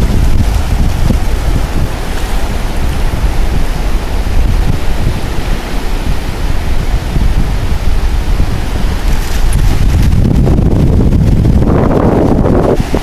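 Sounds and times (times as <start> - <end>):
ocean surf rushing: 0.0 - 13.0
wind buffeting microphone: 0.0 - 13.0.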